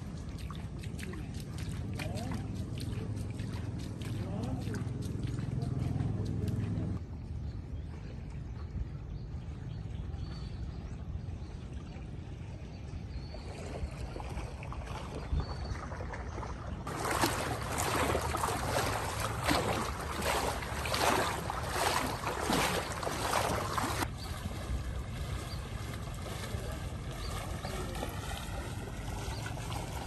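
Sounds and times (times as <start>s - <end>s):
legs wading through water: 0.0s - 30.0s
low steady rumble: 0.0s - 30.0s.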